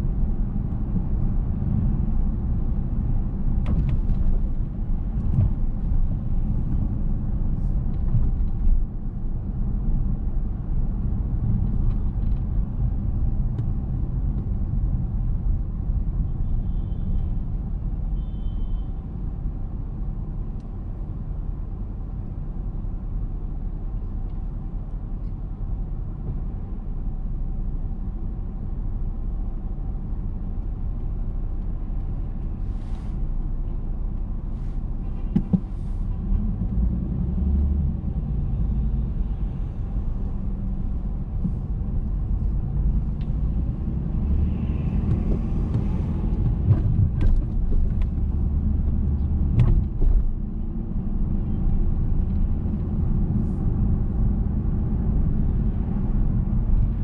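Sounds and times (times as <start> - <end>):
car driving on street: 0.0 - 57.0
other traffic: 0.0 - 57.0.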